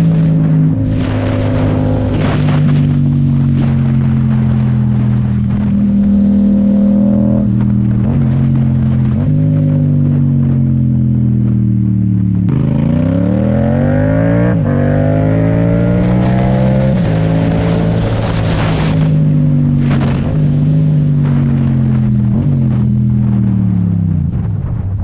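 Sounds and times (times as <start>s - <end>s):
motorcycle engine revving: 0.0s - 24.4s.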